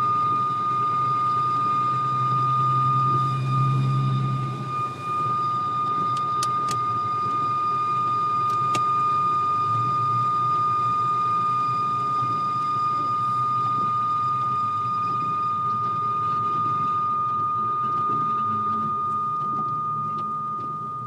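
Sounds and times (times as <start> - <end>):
engine and road rumble: 0.0 - 21.0
high-pitched squeal: 0.0 - 21.0.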